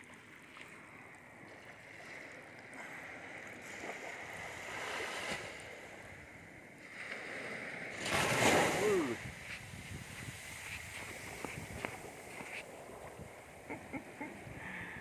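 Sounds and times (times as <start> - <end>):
surf washing over sand: 2.0 - 15.0.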